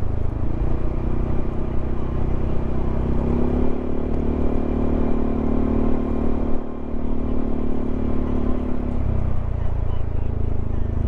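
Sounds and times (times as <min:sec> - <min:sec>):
wind and road rush: 0:00.0 - 0:11.0.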